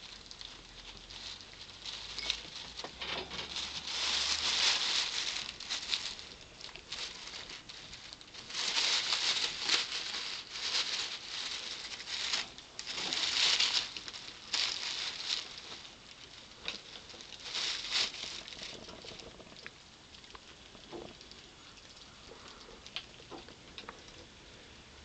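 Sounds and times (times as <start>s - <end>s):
scrabbling rustles: 0.0s - 24.4s.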